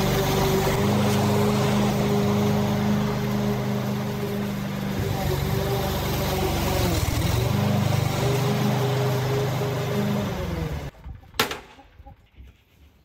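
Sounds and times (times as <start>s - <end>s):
lawn mower engine running: 0.0s - 11.4s.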